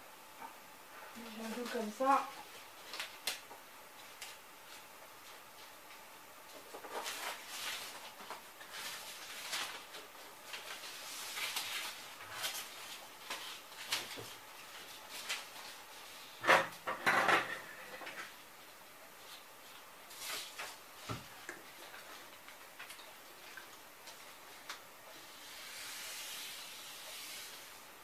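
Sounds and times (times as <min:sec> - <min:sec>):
paper rustling and crinkling: 0:01.3 - 0:16.4, 0:19.2 - 0:27.7.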